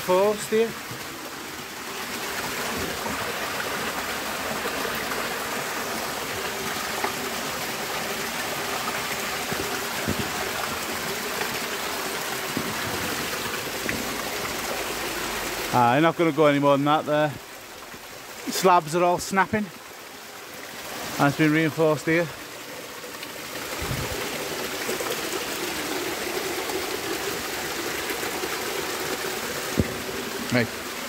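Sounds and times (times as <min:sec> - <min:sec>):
water rushing through tunnel: 0:00.0 - 0:31.0.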